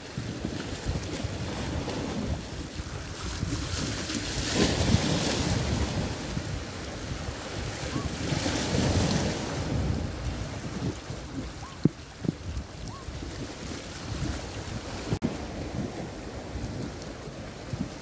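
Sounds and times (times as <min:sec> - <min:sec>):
small waves splashing on shore: 0:00.0 - 0:18.0
wind buffeting microphone: 0:00.0 - 0:18.0.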